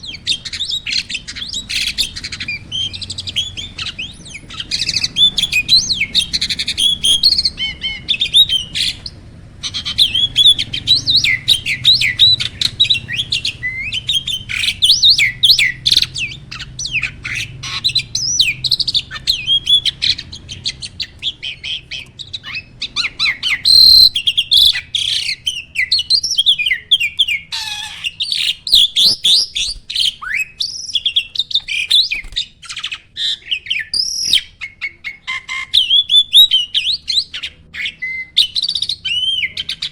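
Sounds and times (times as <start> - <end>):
myna singing chirps and whistles: 0.0 - 39.9.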